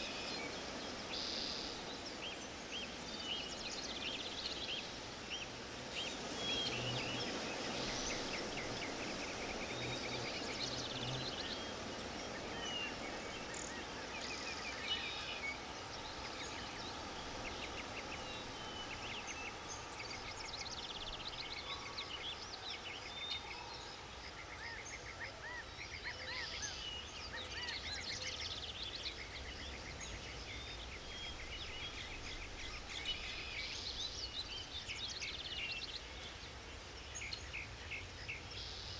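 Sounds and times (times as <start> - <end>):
small birds singing and chirping: 0.0 - 38.9
steady background hiss: 0.0 - 38.9.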